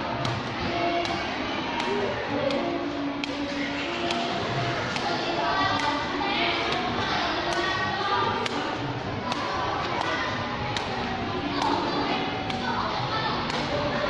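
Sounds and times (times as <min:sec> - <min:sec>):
children chattering: 0:00.0 - 0:14.0.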